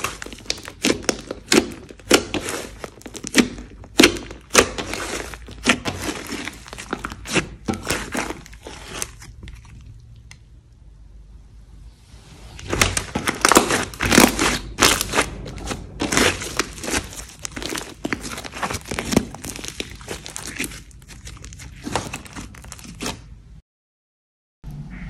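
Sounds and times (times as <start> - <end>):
slime being squished by hand: 0.0 - 10.5, 12.6 - 23.4.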